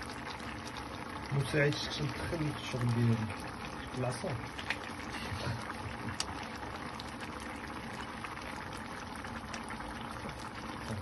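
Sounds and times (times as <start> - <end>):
food bubbling and crackling in pan: 0.0 - 11.0.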